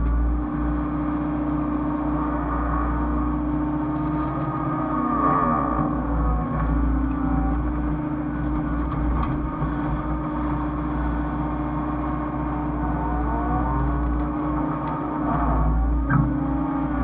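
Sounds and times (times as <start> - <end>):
diesel engine running under load: 0.0 - 17.0
hydraulic whine: 0.0 - 17.0.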